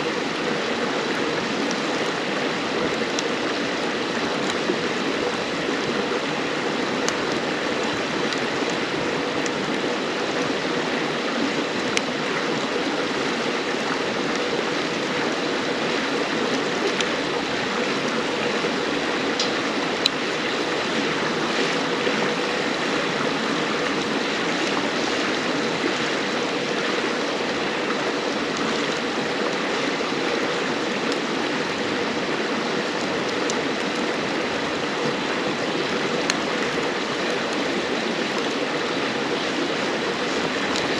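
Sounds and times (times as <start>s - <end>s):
river flowing: 0.0s - 40.9s
wood fire crackling: 0.0s - 40.9s.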